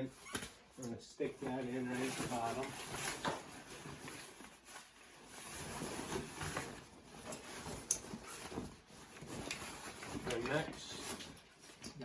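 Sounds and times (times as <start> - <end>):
tent bag rustling and scraping: 1.4 - 11.8.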